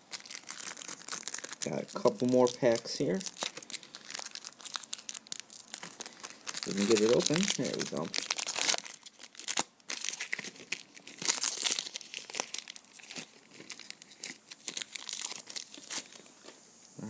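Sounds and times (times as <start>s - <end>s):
foil wrapper crinkling: 0.0s - 16.6s.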